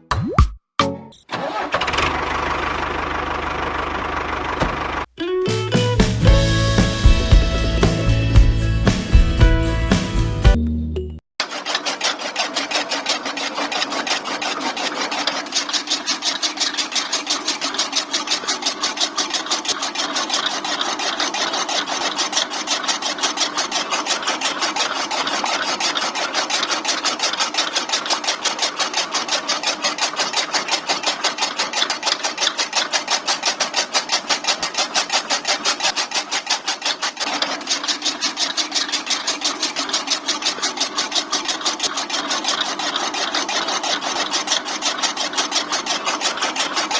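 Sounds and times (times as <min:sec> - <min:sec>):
electric motor chaff cutter rattling: 0:01.3 - 0:05.1, 0:05.7 - 0:10.5, 0:11.4 - 0:46.9.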